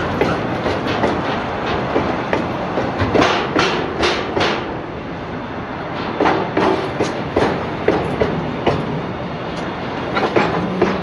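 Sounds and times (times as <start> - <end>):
train wheels clacking over rail joints: 0.0 - 4.8, 5.9 - 11.0.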